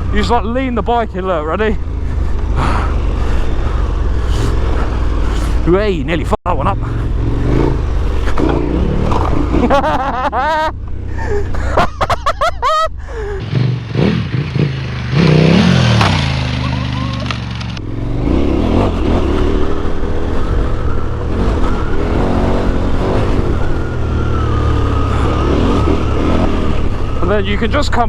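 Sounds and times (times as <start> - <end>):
motorcycle engine revving: 0.0 - 12.4, 13.0 - 28.0.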